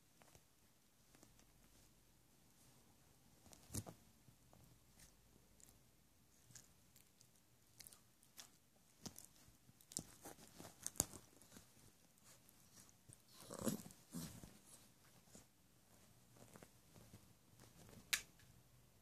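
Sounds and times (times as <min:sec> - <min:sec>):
puppy chewing blanket: 0:00.0 - 0:18.2.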